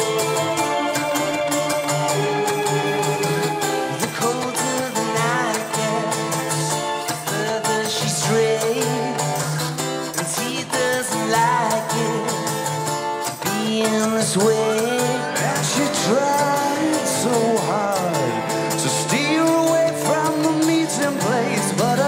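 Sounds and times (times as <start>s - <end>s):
person singing: 0.0s - 22.0s
strummed acoustic guitar: 0.0s - 22.0s.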